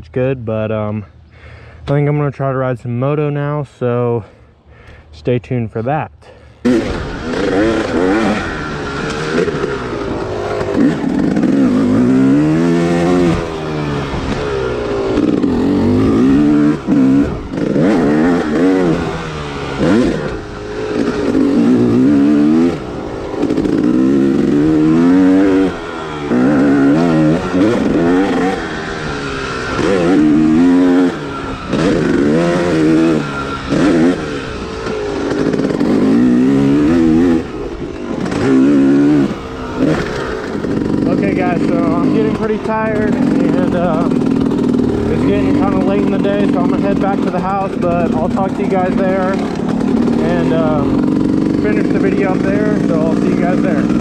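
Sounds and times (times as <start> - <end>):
dirt bike engine revving: 6.4 - 54.0.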